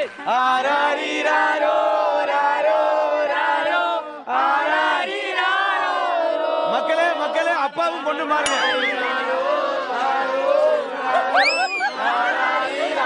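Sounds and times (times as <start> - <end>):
group shouting and chanting: 0.6 - 13.0.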